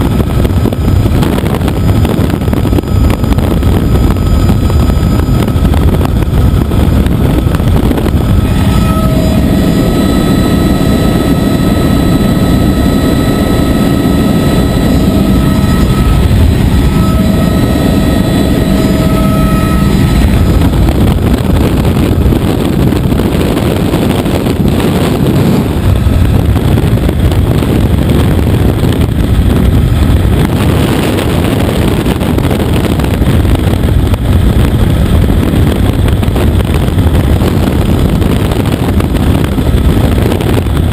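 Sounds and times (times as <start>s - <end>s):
helicopter rotor and engine: 0.0s - 40.9s
high whine: 0.0s - 40.9s.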